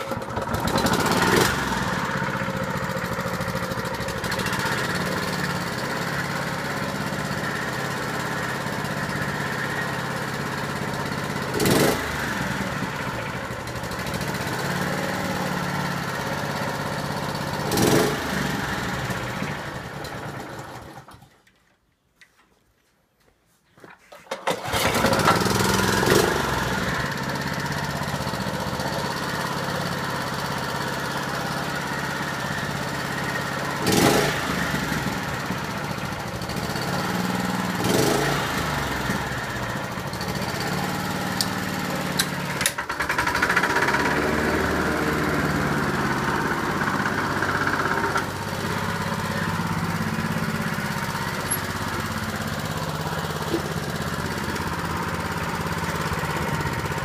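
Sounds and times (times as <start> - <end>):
lawn mower engine running: 0.0 - 21.4, 24.2 - 57.0.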